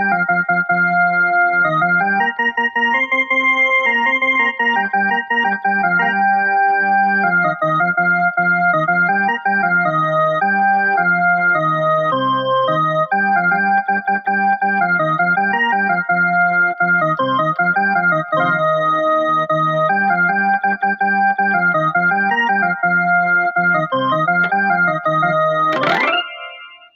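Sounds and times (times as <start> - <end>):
electronic keyboard organ tune: 0.0 - 26.9.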